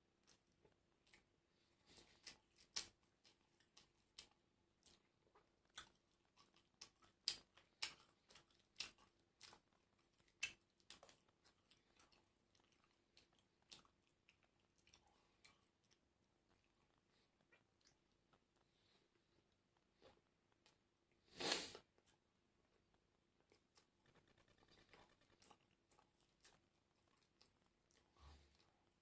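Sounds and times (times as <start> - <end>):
person chewing crunchy food: 0.2 - 29.0.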